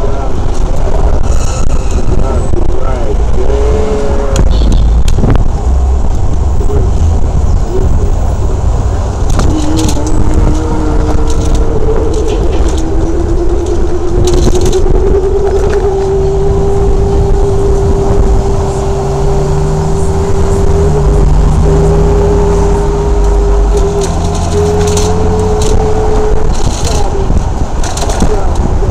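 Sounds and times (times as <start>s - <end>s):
city street traffic: 0.0s - 28.9s
heavy low rumble: 0.0s - 28.9s.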